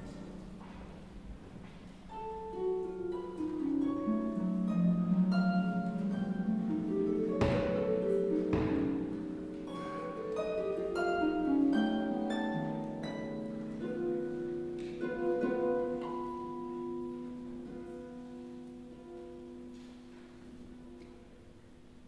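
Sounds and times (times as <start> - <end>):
harp plucked notes: 0.0 - 22.0.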